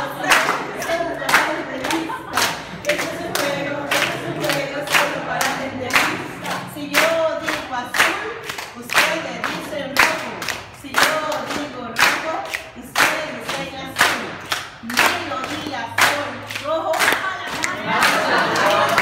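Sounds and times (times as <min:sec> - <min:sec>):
group of people singing: 0:00.0 - 0:19.0
people clapping along: 0:00.0 - 0:19.0.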